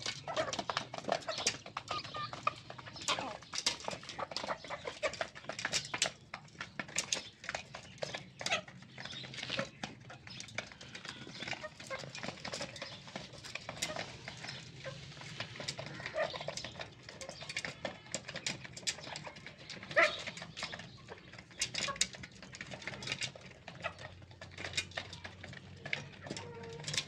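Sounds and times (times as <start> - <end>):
chickens clucking: 0.0 - 27.0
hen pecking metal feeder: 0.0 - 27.0.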